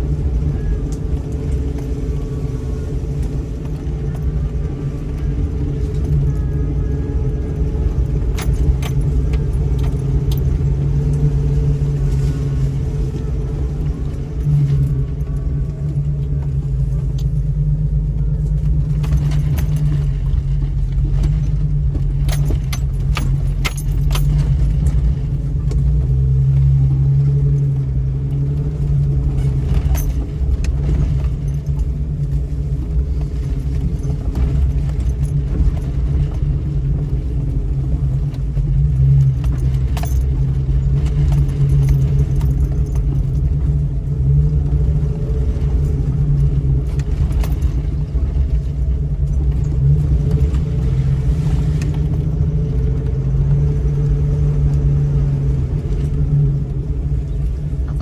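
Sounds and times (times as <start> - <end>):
car engine driving: 0.0 - 58.0
rattles and clicks: 0.0 - 58.0.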